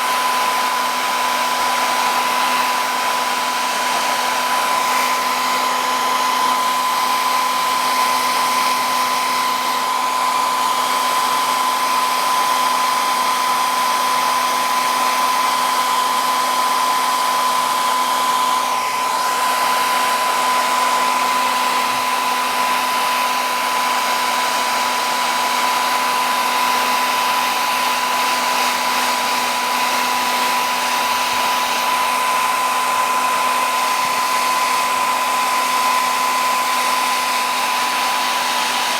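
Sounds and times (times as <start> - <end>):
electric blower running: 0.0 - 38.9.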